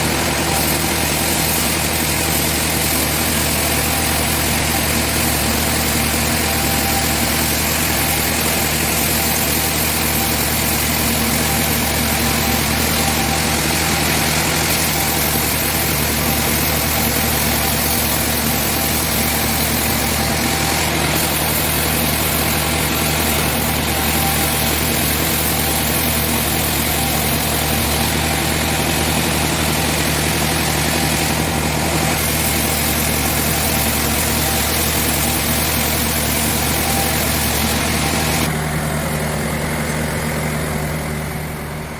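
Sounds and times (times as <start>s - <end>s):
sawmill machinery droning: 0.0s - 41.9s.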